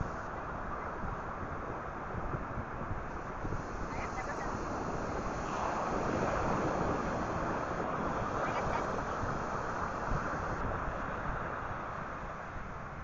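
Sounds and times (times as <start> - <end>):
ocean surf on beach: 0.0 - 13.0
wind on microphone: 0.0 - 13.0.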